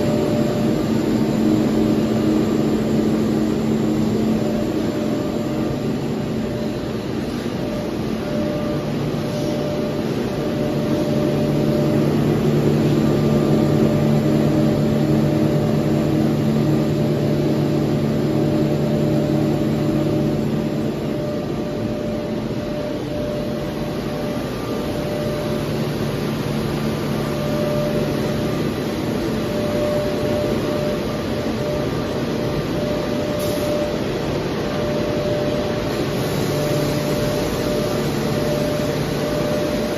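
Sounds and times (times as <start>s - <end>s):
machinery drone: 0.0s - 39.9s
steady hum tones: 0.0s - 39.9s.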